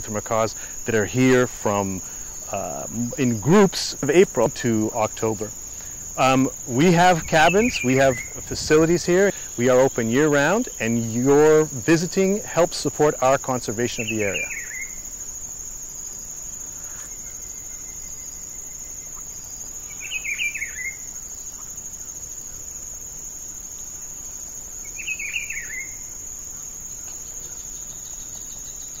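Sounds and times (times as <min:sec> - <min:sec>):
high-pitched insect trill: 0:00.0 - 0:29.0.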